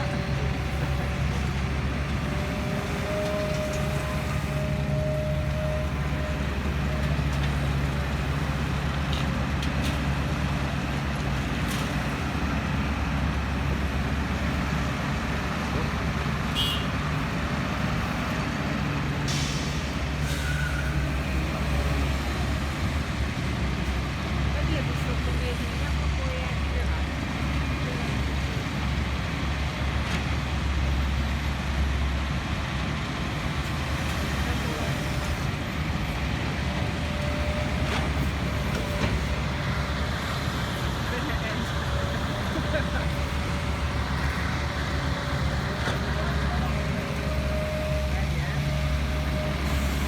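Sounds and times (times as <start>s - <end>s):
heavy diesel engines running: 0.0s - 50.0s.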